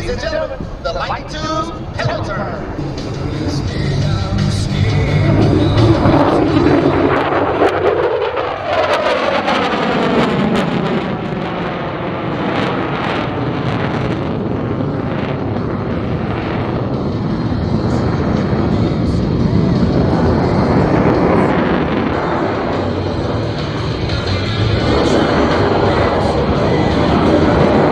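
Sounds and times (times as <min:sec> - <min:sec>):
jet engine roaring: 0:00.0 - 0:27.9.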